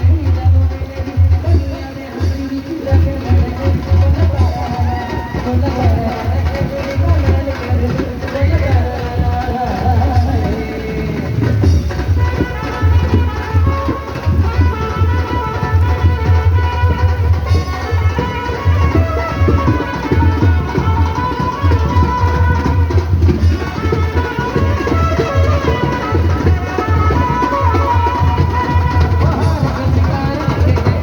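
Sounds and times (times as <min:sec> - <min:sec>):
traditional music with drum beat: 0:00.0 - 0:31.0.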